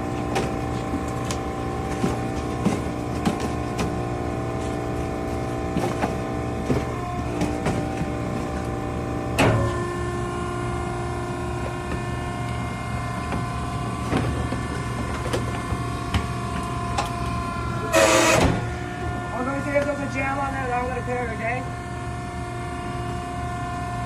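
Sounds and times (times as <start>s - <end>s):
machinery humming: 0.0s - 24.0s
machinery whining tones: 4.0s - 24.0s.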